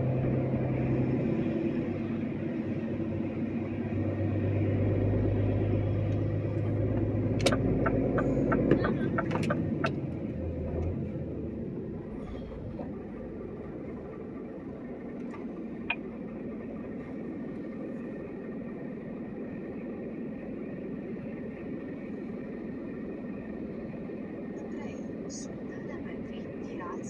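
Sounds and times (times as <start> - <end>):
truck engine and road hum: 0.0 - 27.0.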